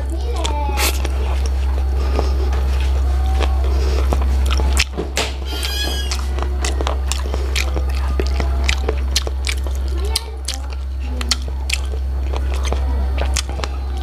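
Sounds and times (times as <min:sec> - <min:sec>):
steady low hum: 0:00.0 - 0:14.0
mouth eating wet clicks: 0:00.4 - 0:05.0, 0:06.0 - 0:14.0.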